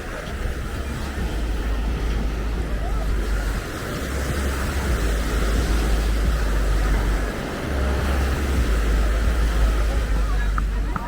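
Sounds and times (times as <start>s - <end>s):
outdoor noise: 0.0s - 11.0s
wind buffeting microphone: 0.0s - 11.0s.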